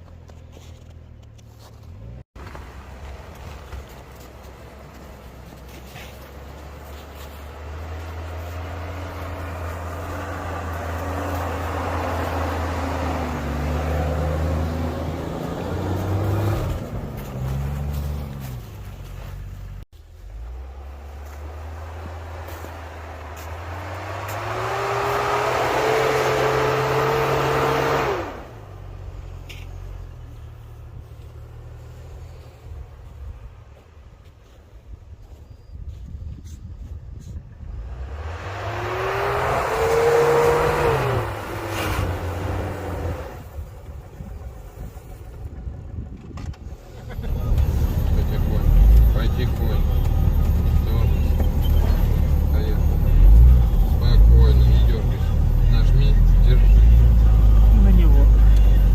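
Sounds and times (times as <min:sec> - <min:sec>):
car engine revving under load: 0:00.1 - 0:33.4, 0:37.6 - 0:58.9.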